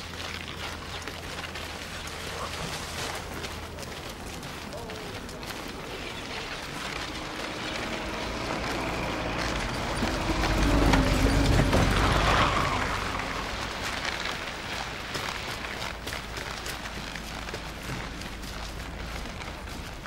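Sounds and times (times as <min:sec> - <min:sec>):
footsteps and sled runners on snow: 0:00.0 - 0:20.0
truck engine rumble: 0:00.0 - 0:20.0.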